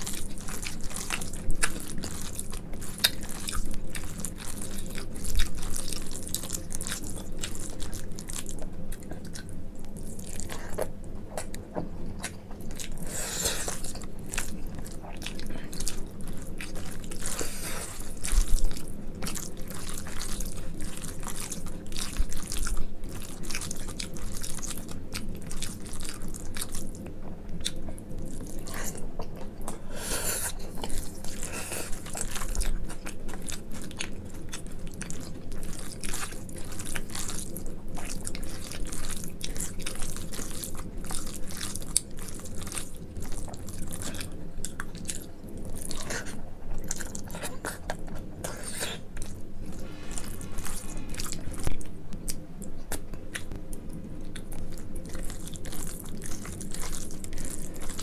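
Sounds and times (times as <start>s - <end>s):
hand squishing sticky food: 0.0s - 29.8s, 30.5s - 58.0s
wet chewing and mouth clicks: 0.0s - 58.0s.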